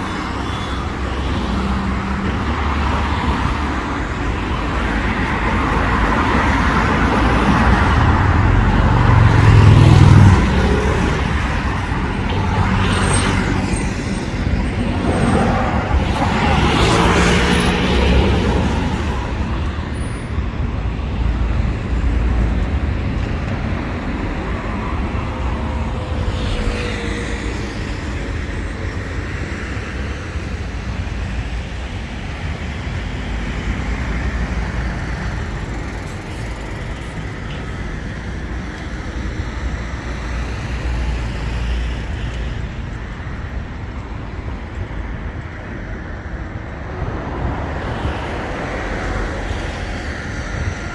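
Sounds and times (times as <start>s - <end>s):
rumble of road traffic: 0.0s - 50.9s.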